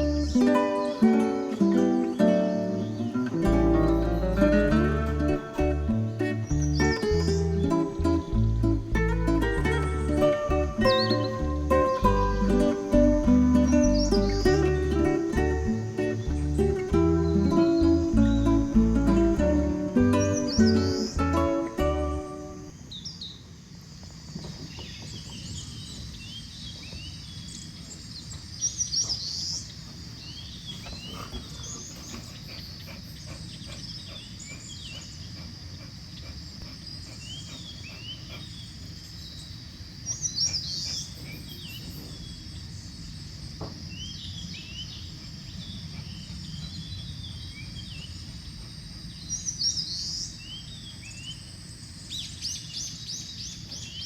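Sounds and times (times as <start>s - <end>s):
bird song phrase: 0.0s - 23.4s, 24.6s - 43.1s, 43.9s - 54.0s
birds chirping: 0.0s - 23.4s, 24.4s - 54.0s.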